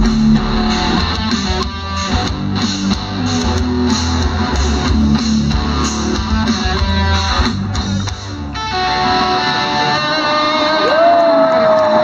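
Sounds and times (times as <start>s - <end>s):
bass guitar: 0.0s - 11.1s
live band playing: 0.0s - 11.2s
electric guitars: 0.0s - 12.0s.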